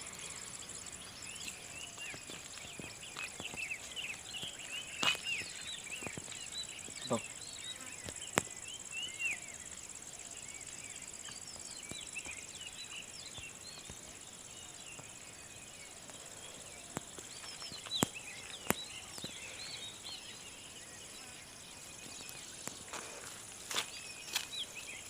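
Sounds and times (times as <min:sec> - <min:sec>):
bird chirps: 0:00.0 - 0:25.0
insect drone: 0:00.0 - 0:25.0.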